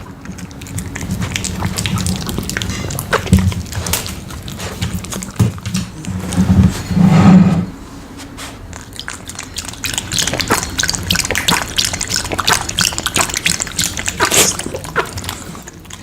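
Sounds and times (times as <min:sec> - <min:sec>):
dog licking and smacking lips: 0:00.0 - 0:06.2, 0:08.4 - 0:16.0.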